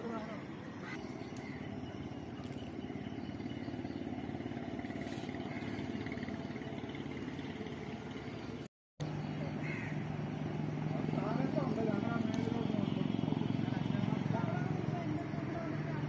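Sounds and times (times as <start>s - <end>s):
steady engine noise: 0.0s - 16.0s.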